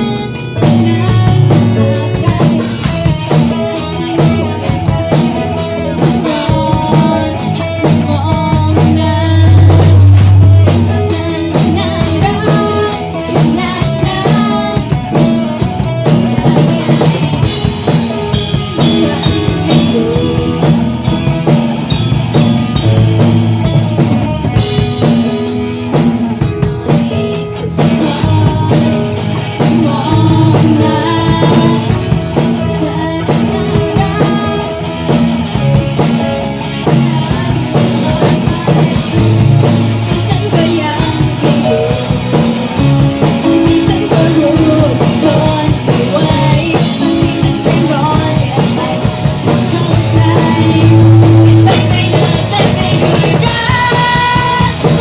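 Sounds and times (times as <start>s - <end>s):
drum kit beating: 0.0s - 55.0s
live rock band: 0.0s - 55.0s.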